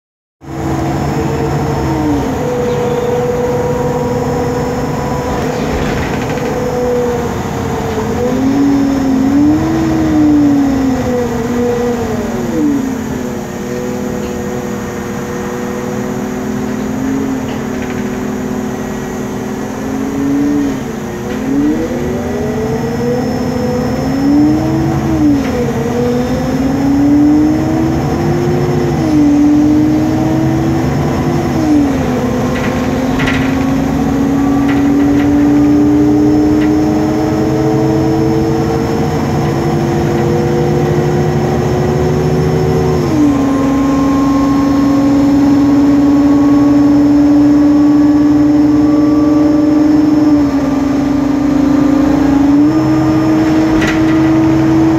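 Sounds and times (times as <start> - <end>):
bus cooling fan whine: 0.4 - 54.9
bus engine low rumble: 0.4 - 54.9.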